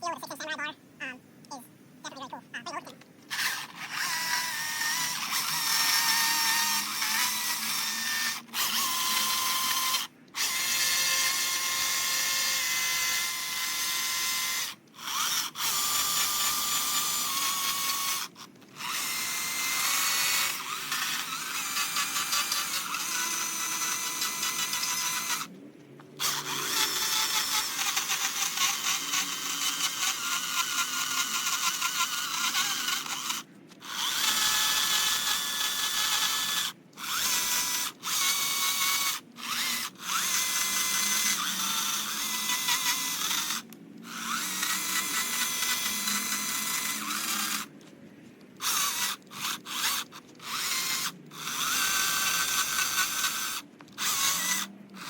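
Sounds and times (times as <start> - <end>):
battery chainsaw cutting wood: 3.3 - 25.5, 26.1 - 47.7, 48.6 - 55.0.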